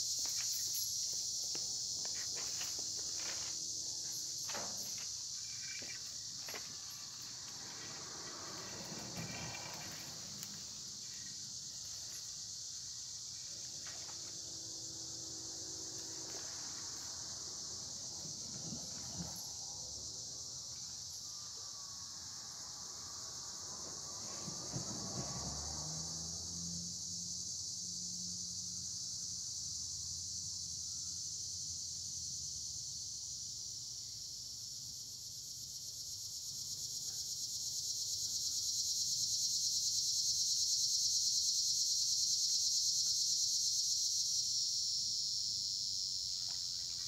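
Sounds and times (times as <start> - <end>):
insect chorus drone: 0.0 - 47.0.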